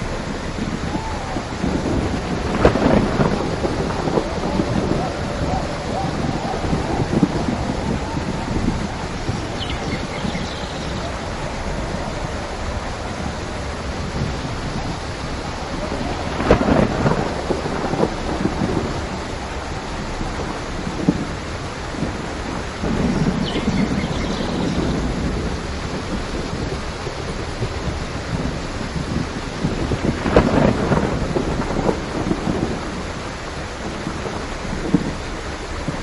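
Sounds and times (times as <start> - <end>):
steady rain: 0.0 - 36.0
thunder: 0.0 - 36.0.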